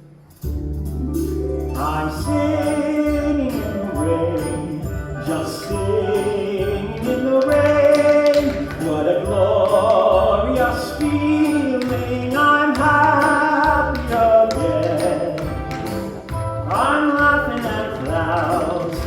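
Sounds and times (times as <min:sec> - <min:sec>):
instrumental accompaniment with beat: 0:00.1 - 0:19.0
person singing: 0:01.6 - 0:19.0.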